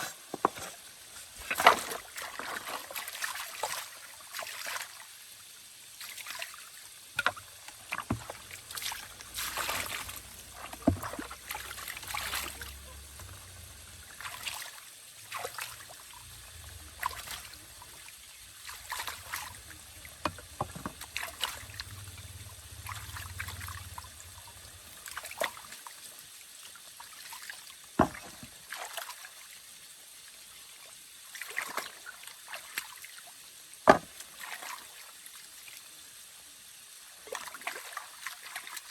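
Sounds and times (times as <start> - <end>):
water splashing and sloshing: 0.0 - 26.1, 26.8 - 29.5, 31.3 - 33.1, 33.9 - 35.2, 37.2 - 38.9.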